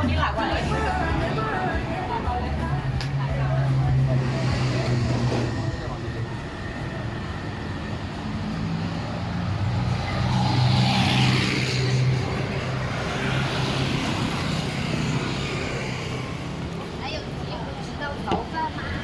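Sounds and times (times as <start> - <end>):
traffic hum: 0.0 - 19.0
vehicle engine passing close: 0.3 - 16.7.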